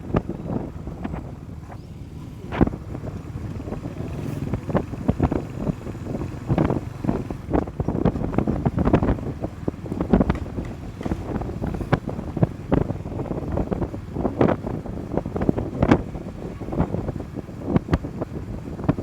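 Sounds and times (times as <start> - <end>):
low motorcycle rumble: 0.0 - 19.0
wind buffeting microphone: 0.0 - 19.0.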